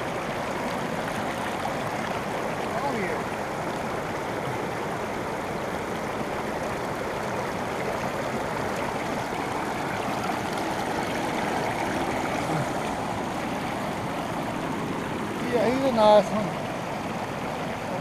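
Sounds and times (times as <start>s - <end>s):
river water rushing over rocks: 0.0s - 18.0s.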